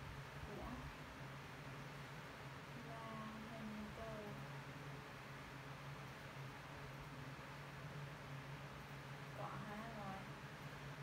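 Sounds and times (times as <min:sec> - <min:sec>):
low even hum: 0:00.0 - 0:11.0.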